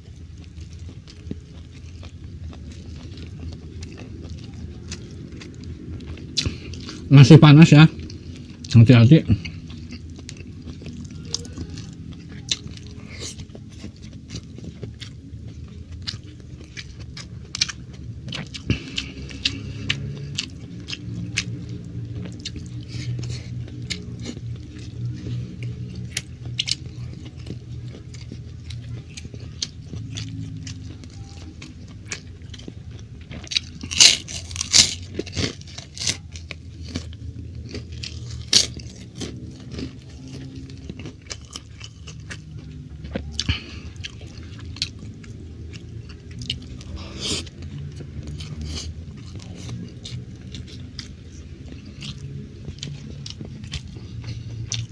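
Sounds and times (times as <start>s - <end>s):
person chewing food: 0.0s - 54.9s.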